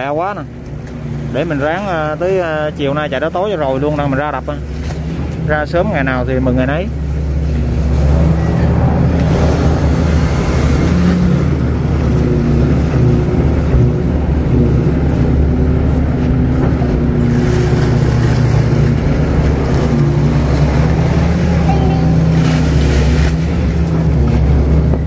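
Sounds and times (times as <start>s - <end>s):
excavator diesel engine droning: 0.0s - 25.0s.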